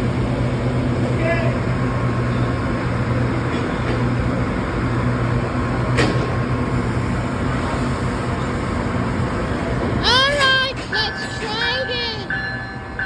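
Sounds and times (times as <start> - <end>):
train machinery hum: 0.0 - 13.0.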